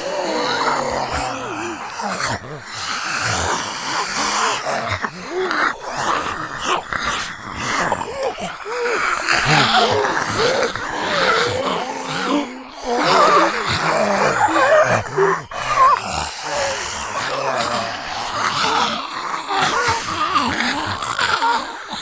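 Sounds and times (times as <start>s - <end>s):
raspy zombie groans and snarls: 0.0s - 22.0s.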